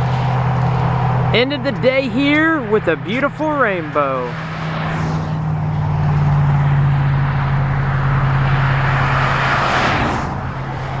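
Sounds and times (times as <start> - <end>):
road noise: 0.0 - 11.0
rush of noise: 0.0 - 11.0
vehicle engine hum: 0.0 - 11.0.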